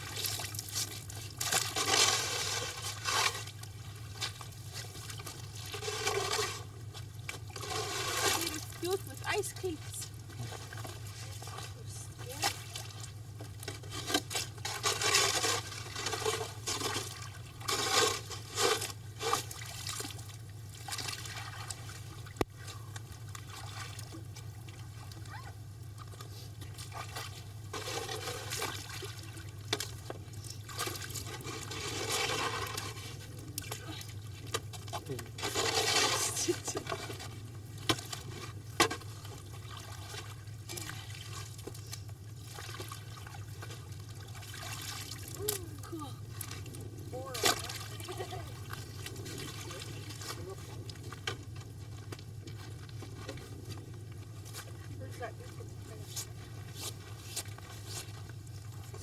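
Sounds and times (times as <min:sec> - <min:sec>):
steady low hum: 0:00.0 - 0:59.0
water and ice splashing and scraping: 0:00.0 - 0:59.0.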